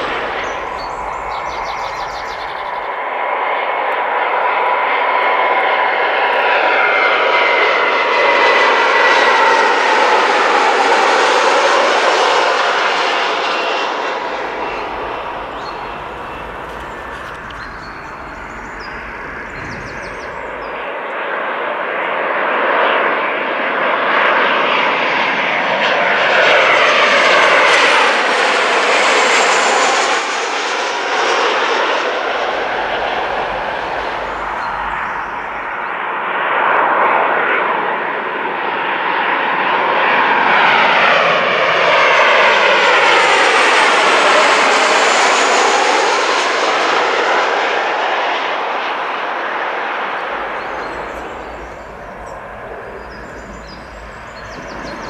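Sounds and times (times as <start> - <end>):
jet airliner passing overhead: 0.0 - 55.0.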